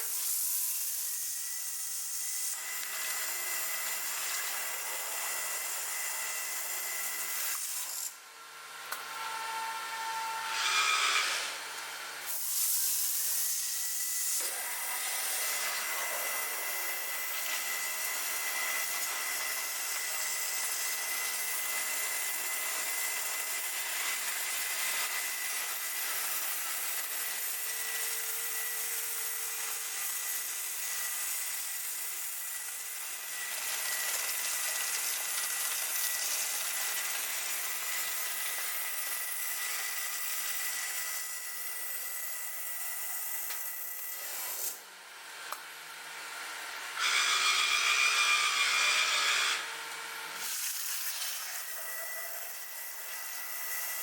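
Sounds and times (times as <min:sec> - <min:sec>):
stone cutting machine hiss and whine: 0:00.0 - 0:54.0.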